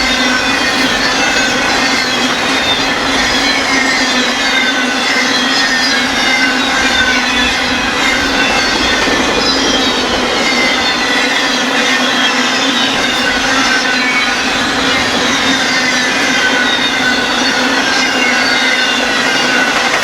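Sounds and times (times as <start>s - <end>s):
freight train rumble: 0.0s - 20.0s
train wheels squealing: 0.0s - 20.0s.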